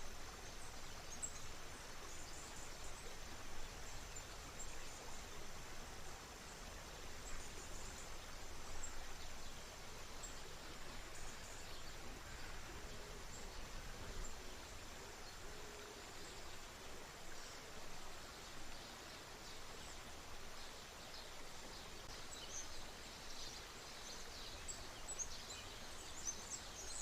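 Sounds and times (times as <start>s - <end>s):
river water running: 0.0s - 27.0s.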